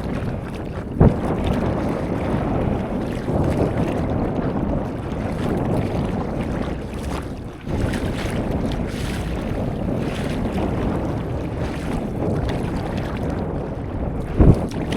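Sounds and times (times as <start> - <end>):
sea water lapping and splashing: 0.0 - 14.9
wind buffeting microphone: 0.0 - 14.9.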